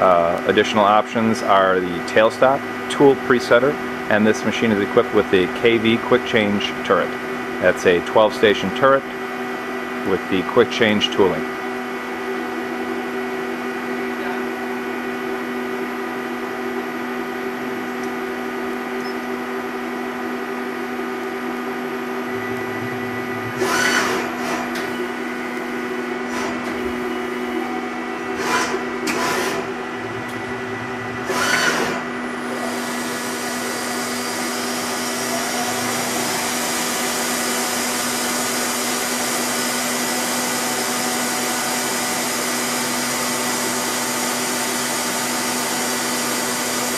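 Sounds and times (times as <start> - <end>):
lathe machine hum and whine: 0.0 - 46.9.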